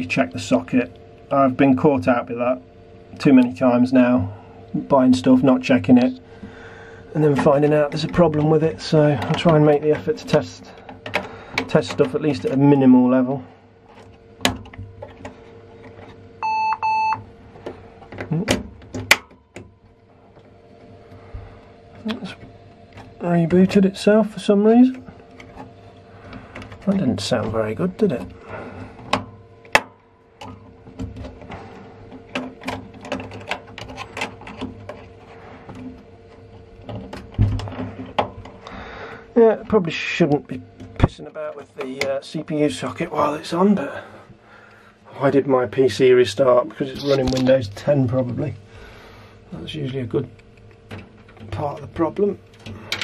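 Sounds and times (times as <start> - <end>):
computer fan hum: 0.0 - 53.0.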